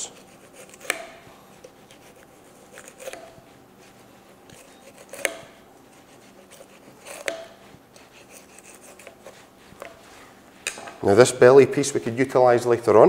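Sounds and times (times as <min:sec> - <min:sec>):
knife scraping on bone: 0:00.0 - 0:10.8.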